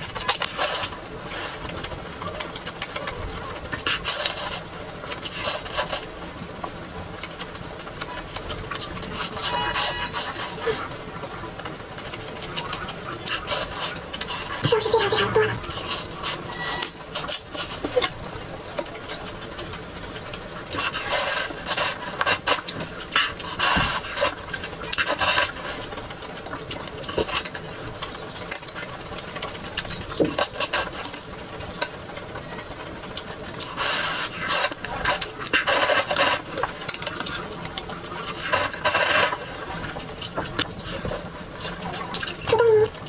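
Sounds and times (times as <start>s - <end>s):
crunching and rustling while eating: 0.0s - 43.0s.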